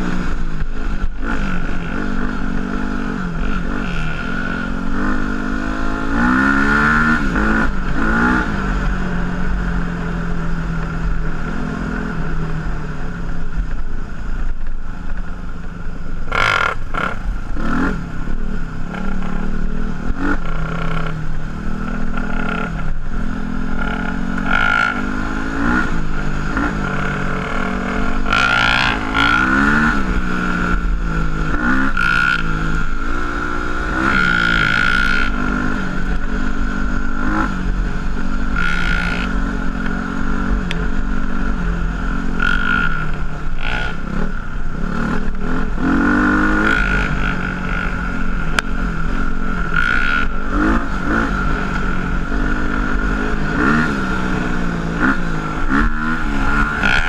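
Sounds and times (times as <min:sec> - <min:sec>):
high whine: 0:00.0 - 0:57.0
motorcycle engine revving: 0:00.0 - 0:57.0.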